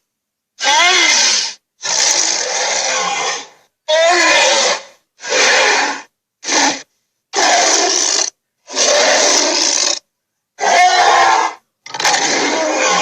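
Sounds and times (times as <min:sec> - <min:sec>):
person making harsh creature sounds: 0:00.6 - 0:10.0, 0:10.6 - 0:13.0.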